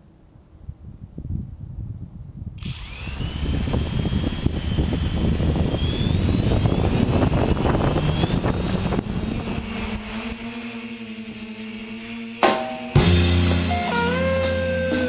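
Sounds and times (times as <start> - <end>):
drone propellers humming: 2.6 - 15.0.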